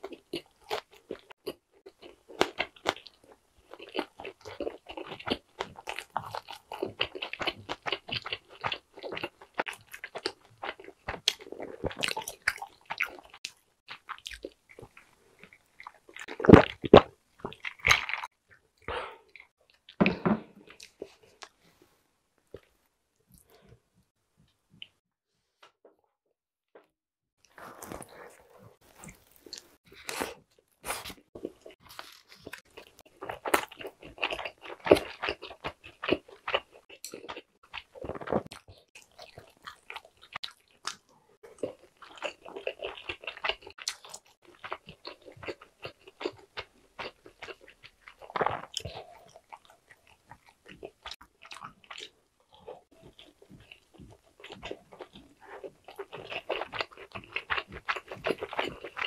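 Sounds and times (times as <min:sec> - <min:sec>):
chewing crunchy pizza: 0:00.0 - 0:20.0, 0:27.4 - 0:59.0.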